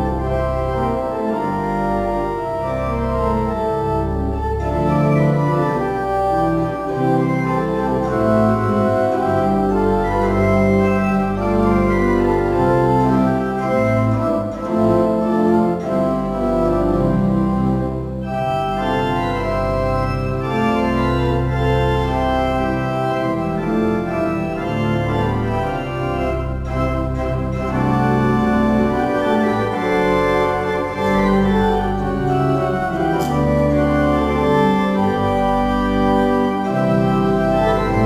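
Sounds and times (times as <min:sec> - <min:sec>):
church organ chords: 0:00.0 - 0:38.0.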